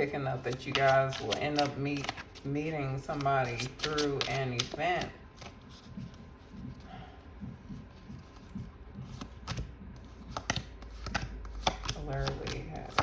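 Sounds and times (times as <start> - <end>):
cards rustling: 0.0 - 13.0.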